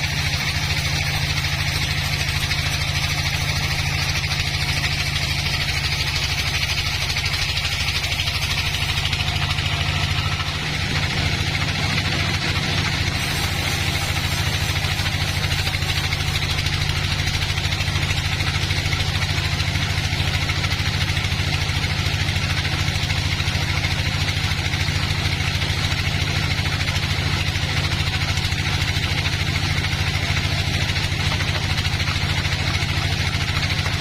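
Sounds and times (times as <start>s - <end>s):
sawmill engine humming: 0.0s - 34.0s.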